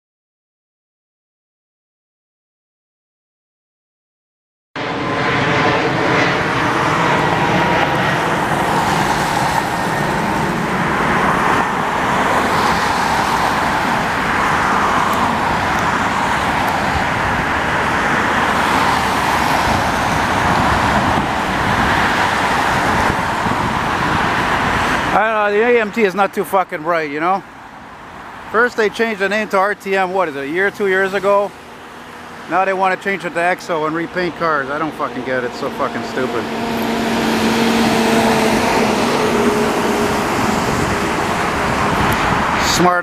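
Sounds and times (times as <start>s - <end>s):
highway traffic rushing past: 4.8s - 43.0s.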